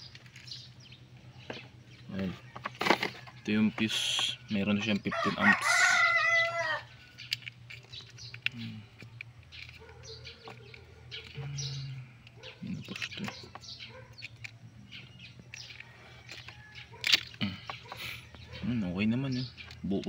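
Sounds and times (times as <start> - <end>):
birds chirping: 0.0 - 20.0
low steady hum: 0.0 - 20.0.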